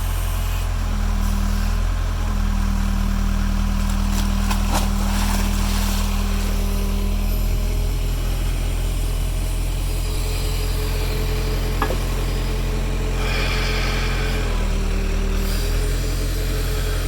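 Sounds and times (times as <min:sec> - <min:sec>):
backhoe engine running: 0:00.0 - 0:17.0.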